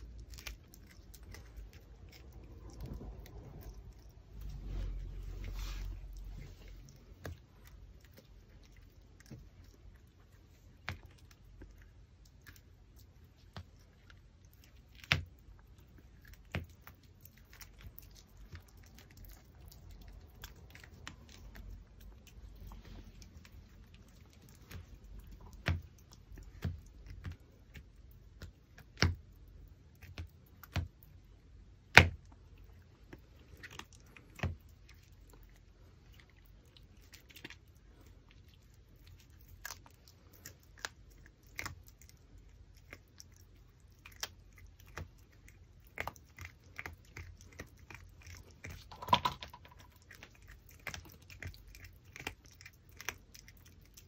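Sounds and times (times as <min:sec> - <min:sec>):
puppy chewing bone: 0:00.0 - 0:54.0.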